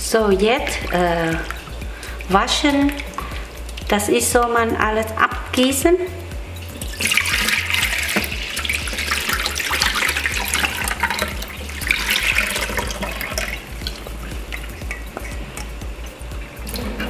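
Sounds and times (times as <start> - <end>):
water sloshing in metal bowl: 0.3 - 4.6, 6.5 - 17.0
water pouring out: 0.6 - 3.9, 6.5 - 17.0.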